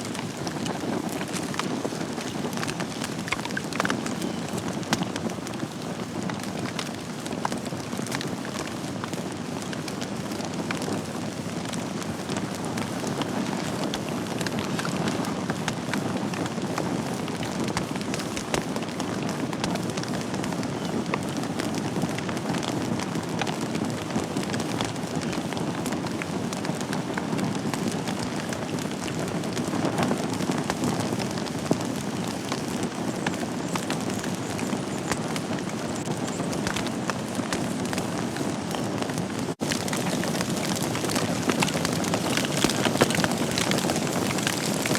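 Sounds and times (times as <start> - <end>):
fireplace fire crackling: 0.0 - 44.9.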